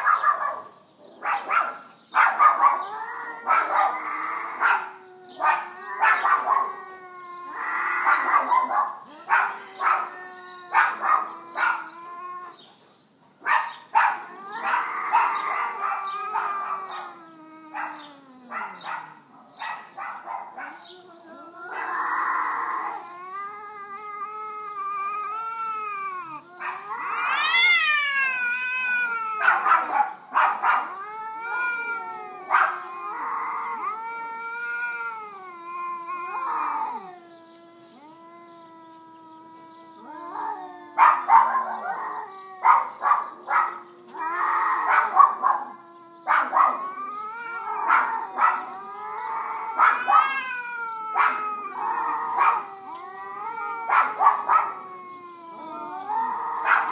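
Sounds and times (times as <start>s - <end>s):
cats yowling in a fight: 0.0s - 1.6s, 2.2s - 12.7s, 13.4s - 56.9s.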